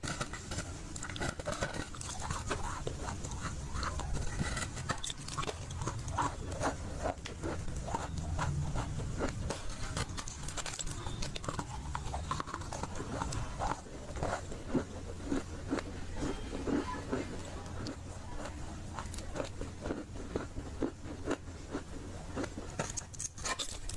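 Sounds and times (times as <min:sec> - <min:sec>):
chewing dry clay crunches: 0:00.0 - 0:23.9.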